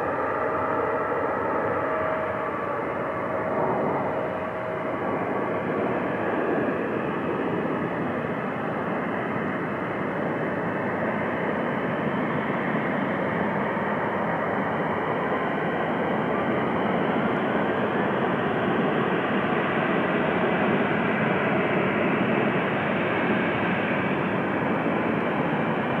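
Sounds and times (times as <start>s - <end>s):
jet engines at low thrust: 0.0s - 26.0s.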